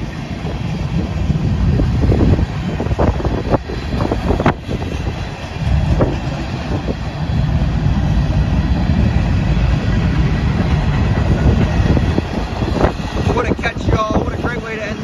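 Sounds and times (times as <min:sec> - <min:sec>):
freight train rumbling by: 0:00.0 - 0:15.0.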